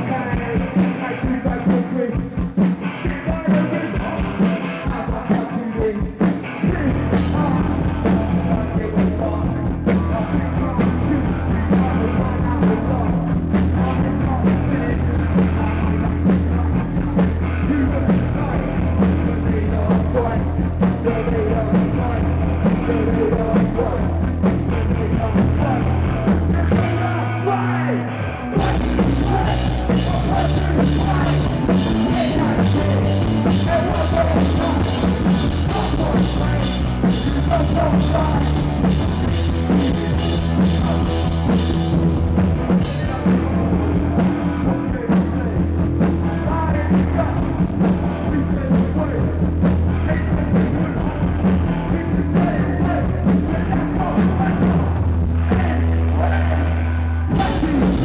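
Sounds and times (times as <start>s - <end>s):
drum kit: 0.0s - 27.6s, 28.5s - 55.8s, 57.3s - 58.0s
person singing: 0.0s - 41.8s, 42.8s - 58.0s
bass guitar: 0.0s - 58.0s
electric guitar: 0.0s - 58.0s.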